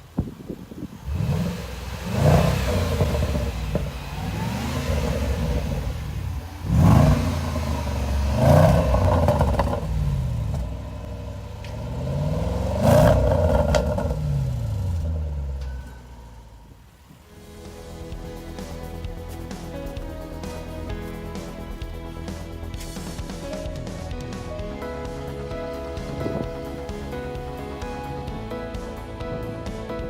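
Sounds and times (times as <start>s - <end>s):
car engine revving: 0.9s - 30.0s.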